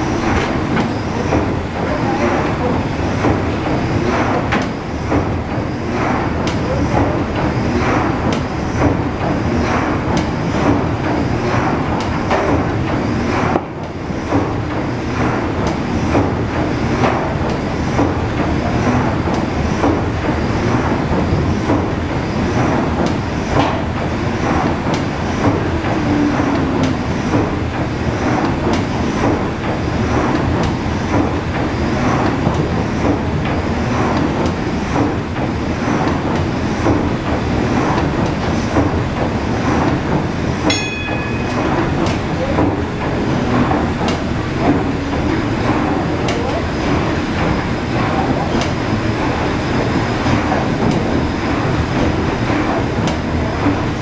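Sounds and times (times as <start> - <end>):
steam engine knocking rhythmically: 0.0 - 54.0.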